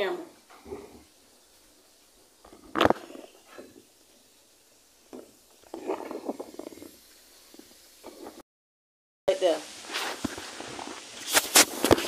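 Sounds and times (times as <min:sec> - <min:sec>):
faint room tone hiss: 0:00.0 - 0:08.4, 0:09.3 - 0:12.0.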